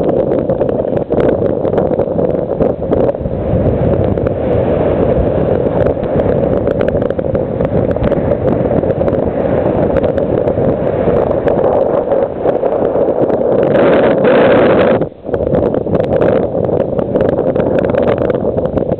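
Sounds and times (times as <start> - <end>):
surf breaking: 0.0 - 18.9
wind buffeting microphone: 0.0 - 18.9.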